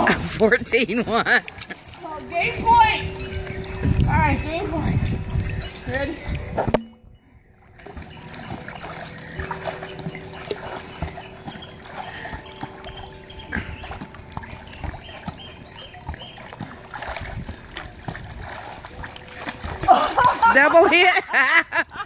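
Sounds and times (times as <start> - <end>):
pool water splashing: 0.0 - 22.0.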